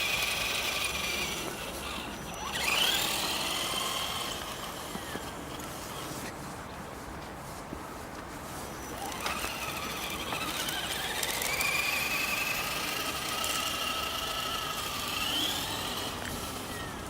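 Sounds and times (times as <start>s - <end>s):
electric motor and gears whining: 0.0s - 6.2s, 8.8s - 17.0s.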